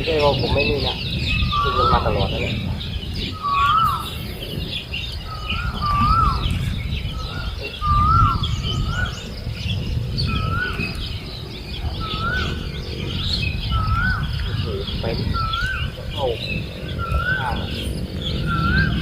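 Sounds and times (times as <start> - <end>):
bird calling: 0.0 - 19.0
low rumble: 0.0 - 19.0
small birds chirping: 0.0 - 19.0.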